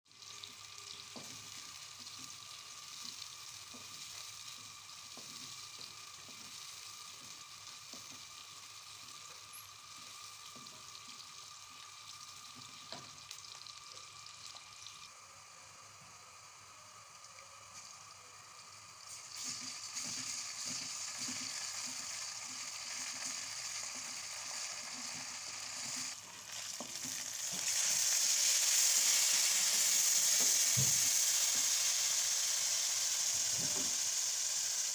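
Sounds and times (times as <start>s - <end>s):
onions sizzling in a pan: 0.1s - 34.9s.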